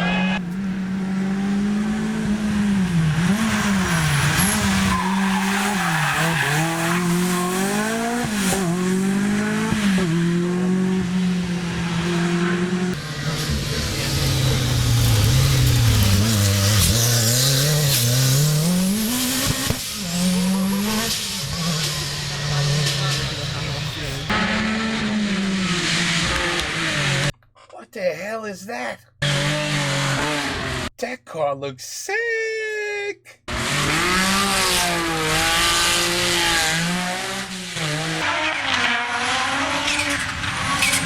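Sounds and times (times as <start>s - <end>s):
rally car engine revving: 0.0s - 27.4s, 29.2s - 30.9s, 33.5s - 41.0s.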